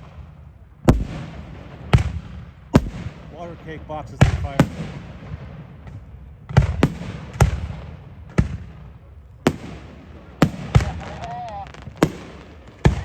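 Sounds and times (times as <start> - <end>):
fireworks bangs with rolling echo: 0.0 - 13.0.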